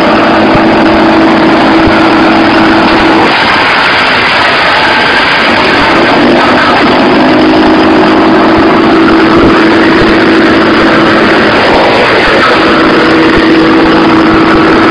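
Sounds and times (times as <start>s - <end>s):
wood chipper humming: 0.0s - 14.9s.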